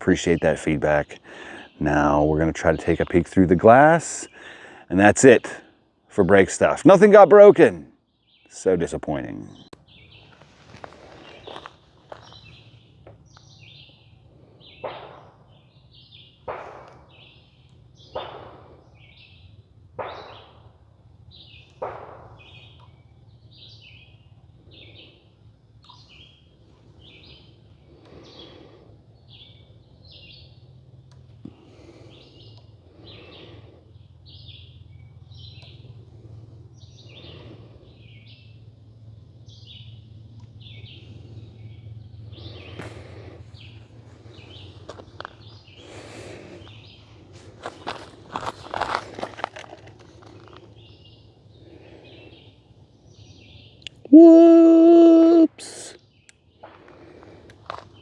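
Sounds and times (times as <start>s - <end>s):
birds chirping: 0.0s - 58.0s
low steady hum: 0.0s - 58.0s.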